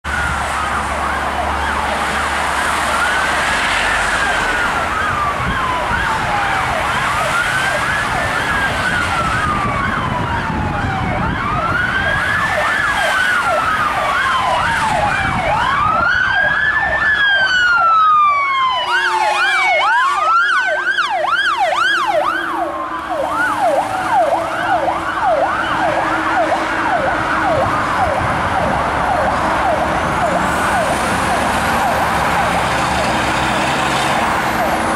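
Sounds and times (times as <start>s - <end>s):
heavy truck engines: 0.0s - 34.9s
wailing siren: 0.0s - 34.9s
yelping siren: 0.0s - 34.9s.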